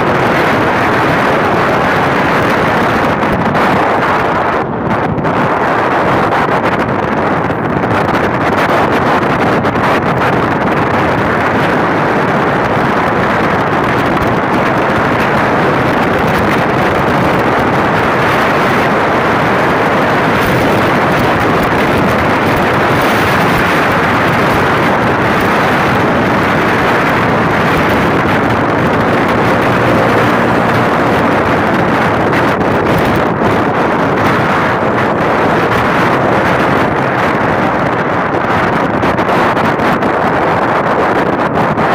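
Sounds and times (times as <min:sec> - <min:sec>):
wind rush over microphone: 0:00.0 - 0:41.9.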